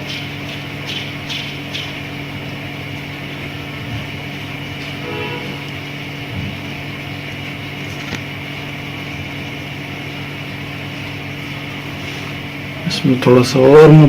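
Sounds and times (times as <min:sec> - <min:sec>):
exhaust fan motor humming: 0:00.0 - 0:14.0.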